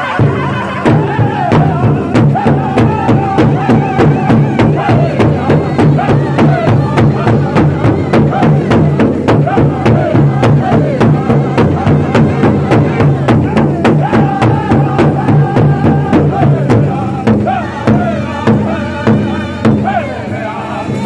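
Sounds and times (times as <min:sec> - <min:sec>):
group singing high-pitched: 0:00.0 - 0:21.0
large hide drum beating: 0:00.0 - 0:21.0.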